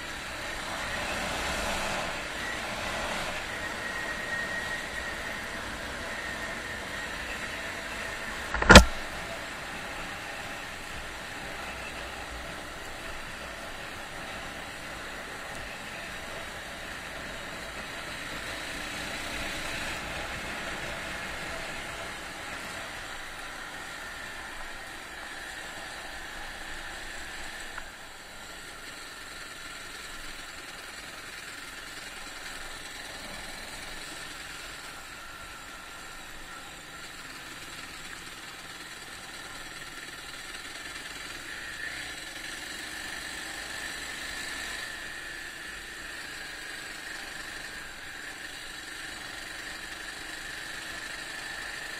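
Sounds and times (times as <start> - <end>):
motorcycle engine running: 0.0 - 51.9
wind and road noise: 0.0 - 51.9.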